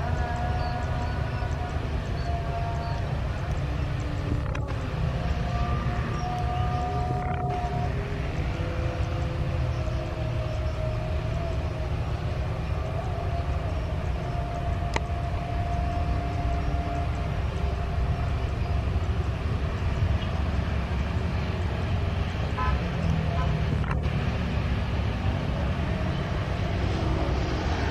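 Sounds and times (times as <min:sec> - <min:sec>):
jet engines whining: 0:00.0 - 0:27.9
wind buffeting microphone: 0:00.0 - 0:27.9.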